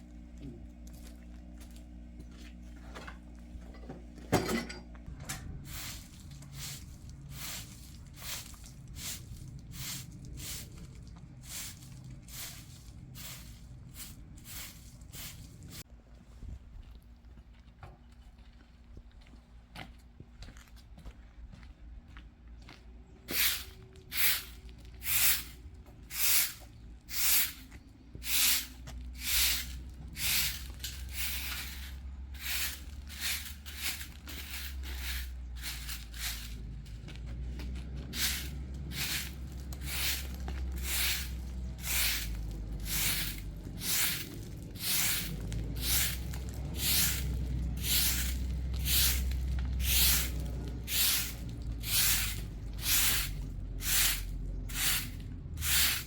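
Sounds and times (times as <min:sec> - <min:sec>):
steady low rumble: 0:04.9 - 0:17.4, 0:21.3 - 0:56.0.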